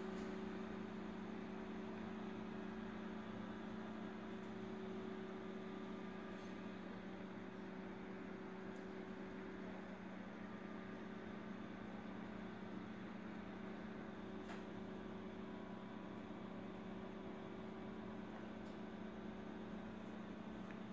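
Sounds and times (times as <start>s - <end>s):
low electrical hum: 0.0s - 20.9s.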